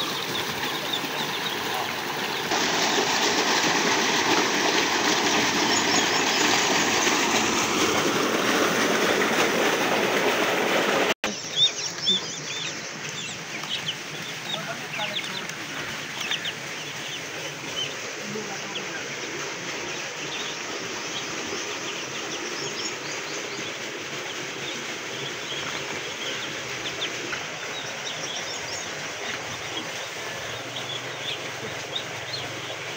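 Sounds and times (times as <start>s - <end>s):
ducklings peeping: 0.0s - 7.6s, 11.2s - 32.9s.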